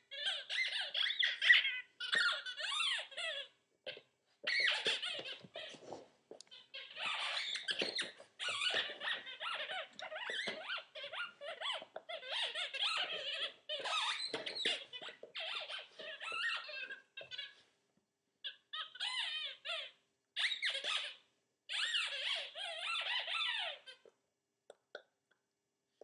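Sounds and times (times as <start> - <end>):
squeaky rubber toy squeaking: 0.0 - 17.6, 18.4 - 24.1.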